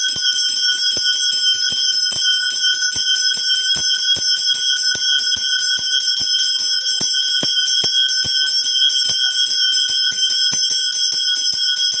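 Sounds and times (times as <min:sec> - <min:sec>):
brass hand bell ringing rapidly: 0:00.0 - 0:12.0.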